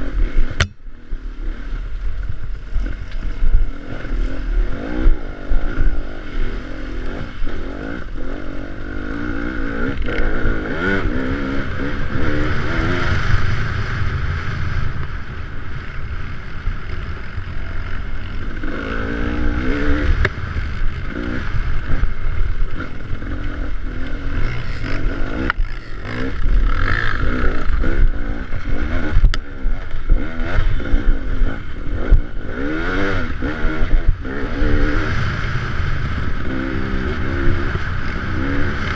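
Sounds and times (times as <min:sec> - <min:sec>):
off-road vehicle engine revving: 0:02.6 - 0:14.8, 0:15.6 - 0:38.9.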